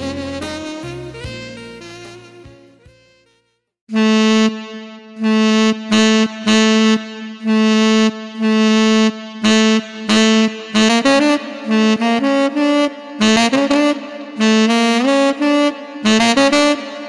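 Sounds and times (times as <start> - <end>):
synthesized saxophone note: 0.0 - 17.0.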